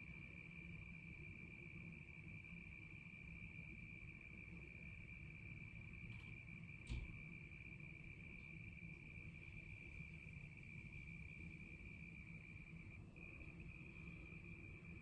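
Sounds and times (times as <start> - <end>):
faint low outdoor rumble: 0.0 - 15.0
insects chirring: 0.0 - 15.0.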